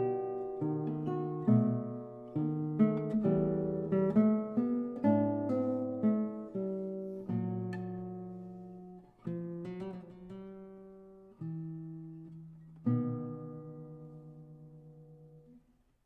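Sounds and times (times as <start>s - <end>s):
solo classical guitar: 0.0s - 16.0s.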